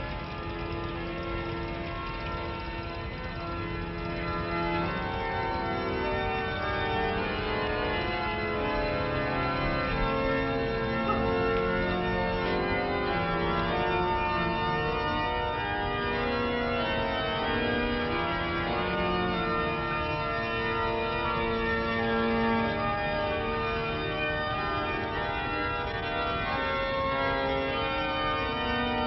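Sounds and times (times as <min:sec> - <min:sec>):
church organ chords: 0:00.0 - 0:29.0.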